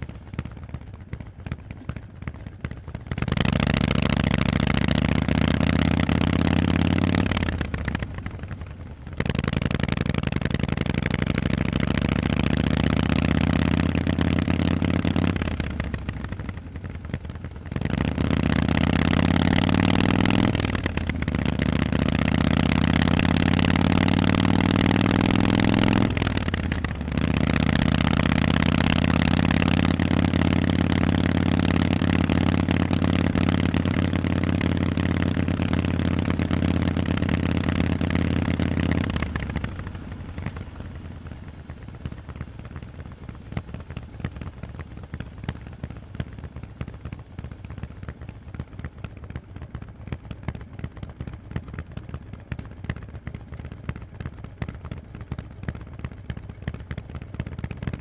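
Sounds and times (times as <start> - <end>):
loud v-twin motorcycle engine: 0.0 - 58.0.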